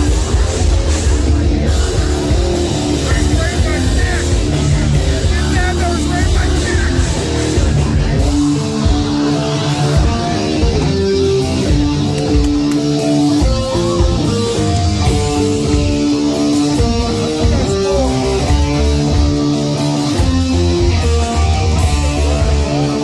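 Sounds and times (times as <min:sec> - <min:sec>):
heavy bass: 0:00.0 - 0:23.0
live heavy metal band: 0:00.0 - 0:23.0
sustained electric guitar notes: 0:00.0 - 0:23.0.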